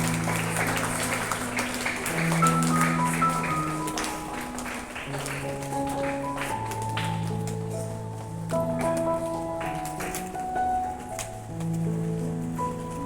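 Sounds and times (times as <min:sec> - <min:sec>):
audience clapping: 0:00.0 - 0:11.3
instrumental background music: 0:00.0 - 0:13.0.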